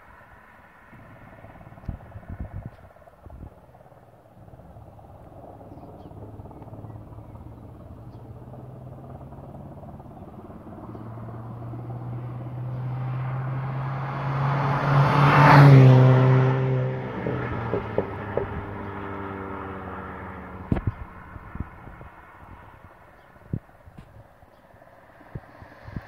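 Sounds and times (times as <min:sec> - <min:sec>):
rush of road noise: 0:00.0 - 0:26.0
vehicle engine hum: 0:00.0 - 0:26.0.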